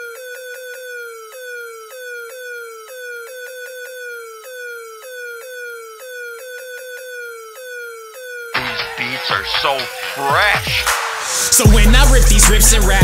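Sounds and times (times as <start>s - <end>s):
electronic siren tone: 0.0s - 13.0s.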